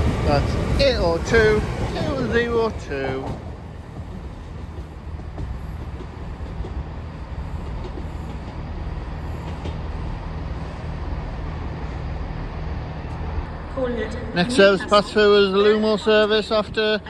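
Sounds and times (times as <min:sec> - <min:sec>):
train rumbling through station: 0:00.0 - 0:17.0.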